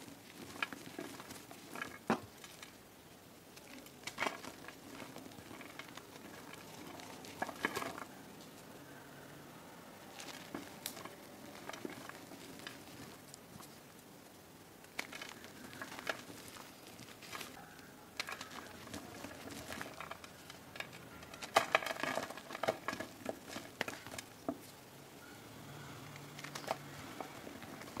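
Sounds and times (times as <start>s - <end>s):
crumbs falling onto powder: 0.0s - 8.6s, 10.0s - 14.1s, 14.7s - 24.8s
hand crushing chalk blocks: 0.0s - 9.0s, 10.0s - 14.0s, 14.8s - 24.8s, 25.8s - 28.0s.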